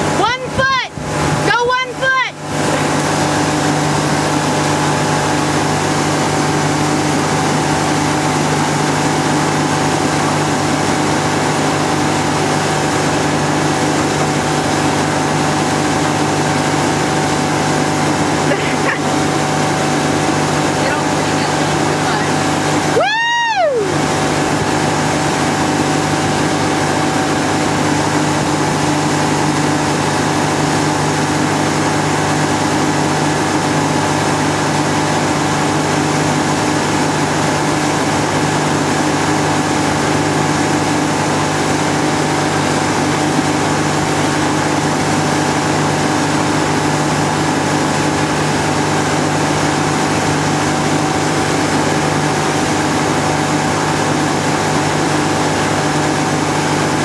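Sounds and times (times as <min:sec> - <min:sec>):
boat engine droning: 0:00.0 - 0:57.0
water rushing: 0:00.0 - 0:57.0.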